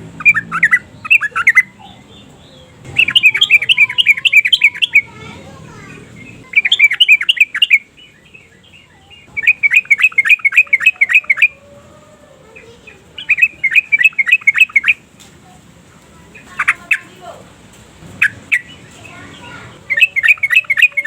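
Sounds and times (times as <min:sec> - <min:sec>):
bird chattering calls: 0:00.0 - 0:11.7, 0:12.4 - 0:15.6, 0:16.2 - 0:21.0.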